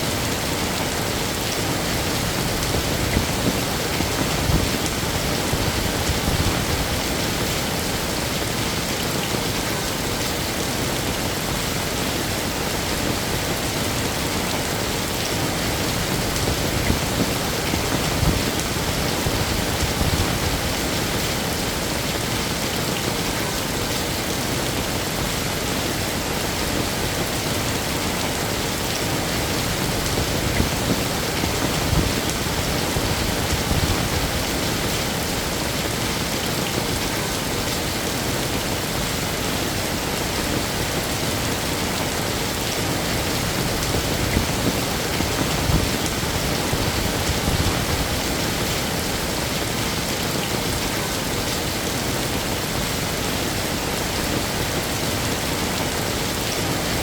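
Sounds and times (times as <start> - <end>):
heavy rain on hard surfaces: 0.0 - 57.0.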